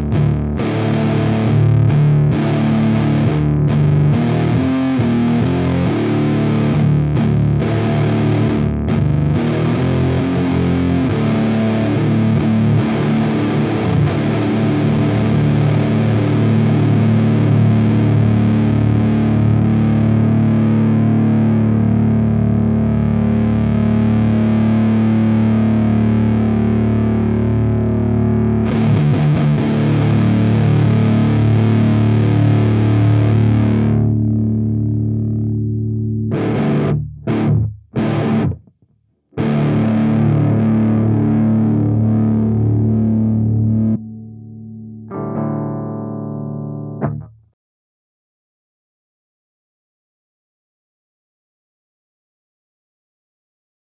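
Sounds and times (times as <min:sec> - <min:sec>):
distorted electric guitar chords: 0:00.0 - 0:38.8, 0:39.4 - 0:47.5.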